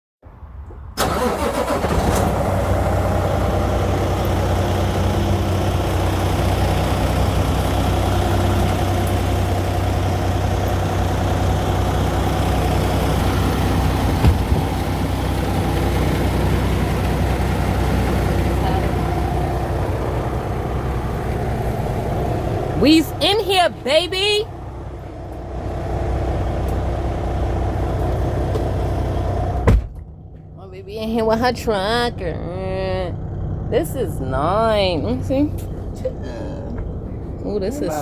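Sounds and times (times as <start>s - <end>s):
truck engine idling: 1.0s - 38.0s.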